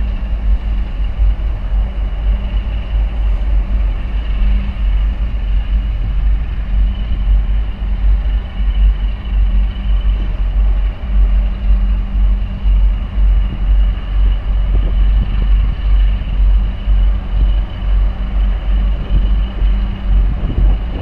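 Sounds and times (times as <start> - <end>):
ship engine drone: 0.0 - 21.0
wind buffeting microphone: 0.0 - 21.0.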